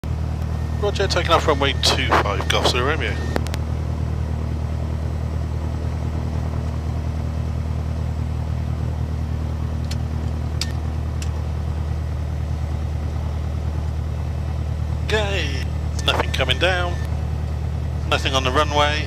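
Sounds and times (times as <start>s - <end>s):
aircraft piston engine droning: 0.0s - 19.0s.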